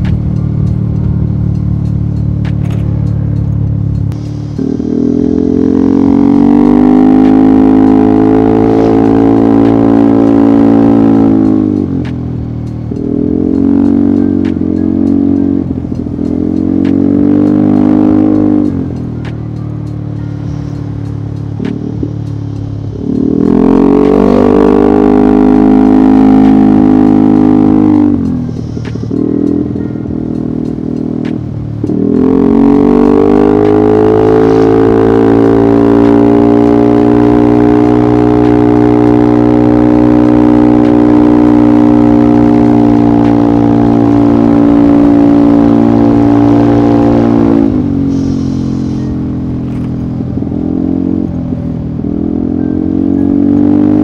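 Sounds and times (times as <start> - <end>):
scooter engine at full throttle: 0.0 - 54.0.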